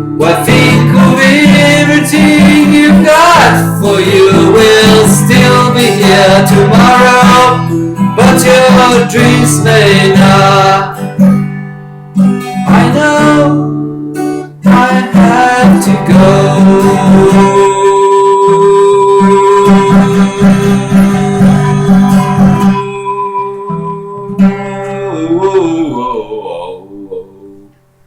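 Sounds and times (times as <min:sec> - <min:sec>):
person singing: 0:00.0 - 0:11.2, 0:12.6 - 0:13.8, 0:14.6 - 0:27.8
acoustic guitar strummed: 0:00.0 - 0:28.0.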